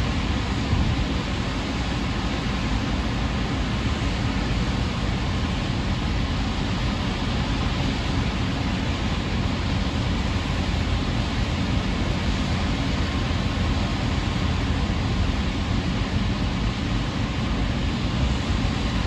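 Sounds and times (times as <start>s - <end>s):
ship engine rumble: 0.0s - 19.0s
wind on microphone: 0.0s - 19.0s.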